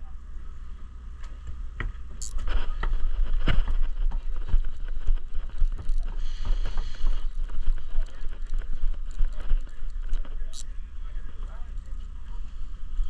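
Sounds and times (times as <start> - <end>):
boat engine rumbling: 2.2 - 13.0.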